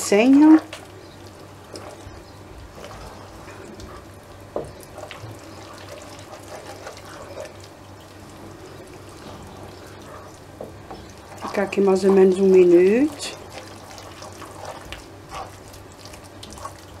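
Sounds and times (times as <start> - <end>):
wet dough squelching: 0.0 - 17.0.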